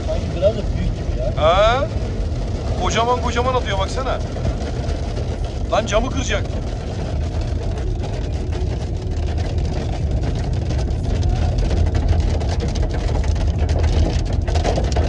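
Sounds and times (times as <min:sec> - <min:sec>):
car engine and tyres rumbling: 0:00.0 - 0:15.0
hail and rain pelting car roof: 0:00.0 - 0:15.0.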